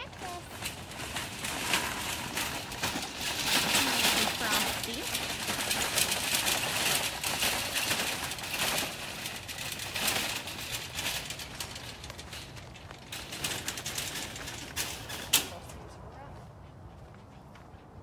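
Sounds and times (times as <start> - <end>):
wagon rattling over dirt path: 0.0 - 16.4.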